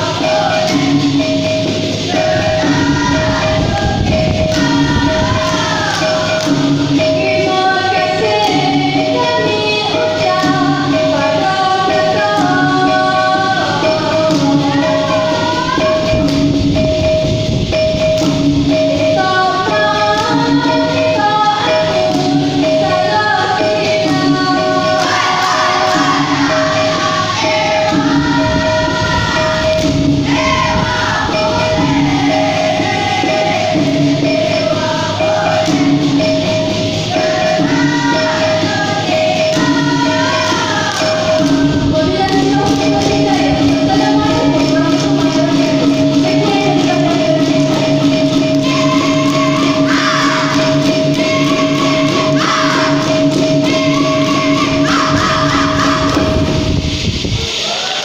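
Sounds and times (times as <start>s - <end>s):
repeating held-note accompaniment: 0.0s - 57.1s
steady percussion beat: 0.0s - 58.0s
woman singing into a microphone: 2.1s - 16.3s, 19.0s - 36.2s, 37.1s - 56.8s.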